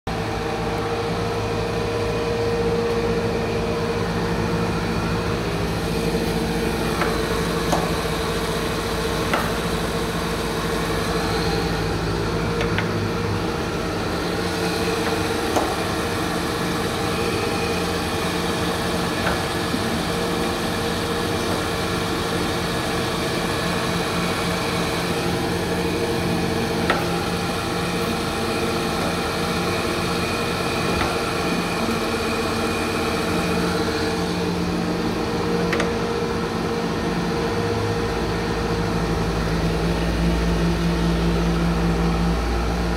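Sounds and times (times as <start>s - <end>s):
deep machine rumble: 0.1s - 42.9s
grinder machine hum: 0.1s - 42.9s.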